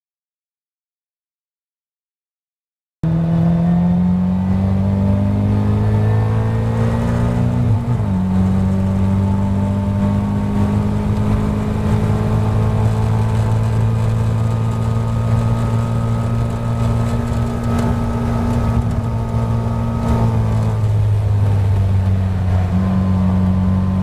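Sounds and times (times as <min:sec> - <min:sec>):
car engine at full throttle: 0:03.0 - 0:24.0.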